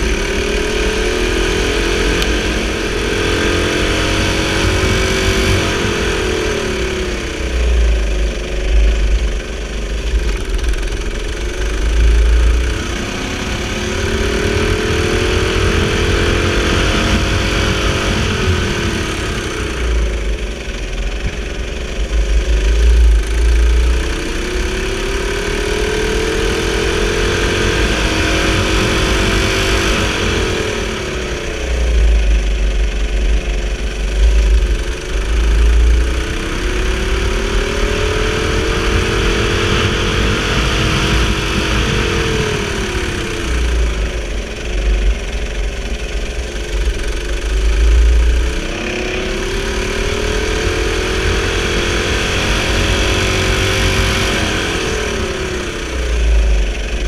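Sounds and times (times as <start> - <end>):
go-kart engine revving: 0.0 - 57.0
heavy low rumble: 0.0 - 57.0.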